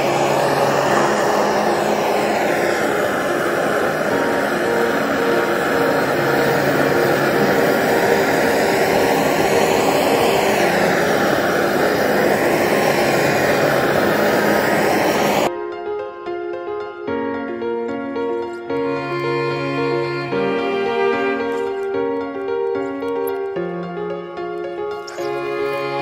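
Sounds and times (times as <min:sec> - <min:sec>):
gas torch flame roaring: 0:00.0 - 0:15.5, 0:18.4 - 0:26.0
music: 0:00.0 - 0:26.0.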